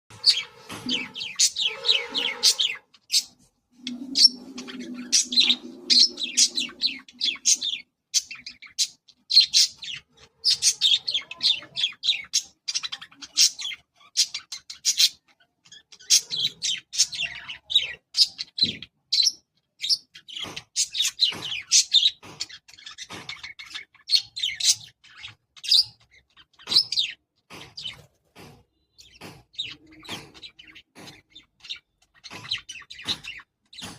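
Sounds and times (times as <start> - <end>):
budgerigars chirping and warbling: 0.1 - 33.9
lower-pitched bird chatter: 0.1 - 33.9.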